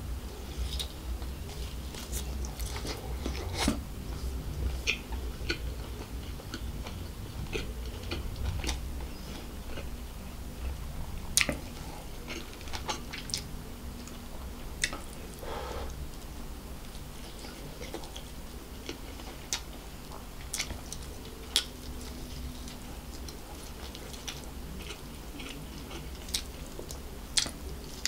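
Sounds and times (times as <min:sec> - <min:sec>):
steady low hum: 0:00.0 - 0:28.0
chewing chicken: 0:00.3 - 0:28.0.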